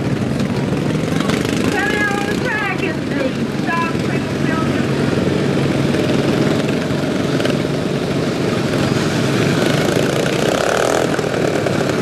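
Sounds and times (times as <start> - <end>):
lawn mower engines droning: 0.0 - 12.0.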